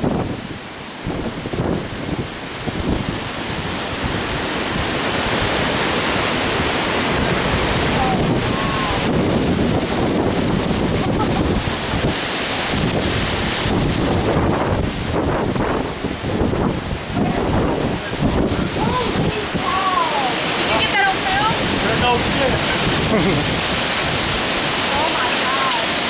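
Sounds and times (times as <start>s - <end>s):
strong winds rushing: 0.0s - 26.0s
wind buffeting microphone: 0.0s - 26.0s.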